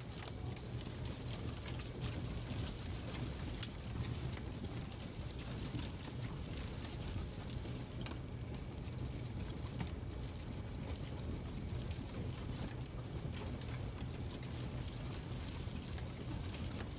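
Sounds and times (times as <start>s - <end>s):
fire crackling and popping: 0.0s - 16.9s
low rumble of fire: 0.0s - 16.9s.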